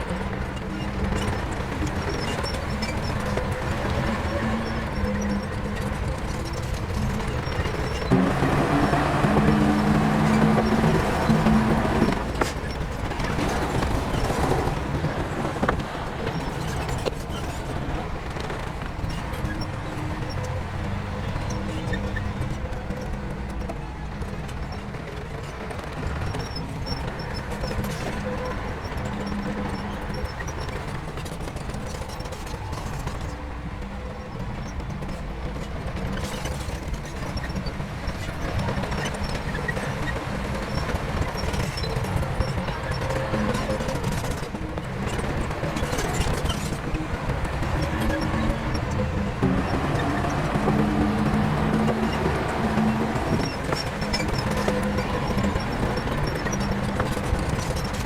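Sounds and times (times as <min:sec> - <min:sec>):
heavy diesel machinery rumbling: 0:00.0 - 0:58.0.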